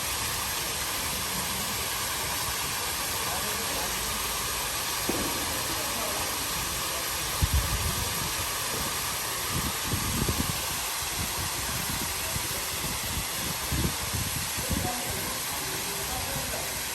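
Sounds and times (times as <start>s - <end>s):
fountain water splashing: 0.0s - 16.9s.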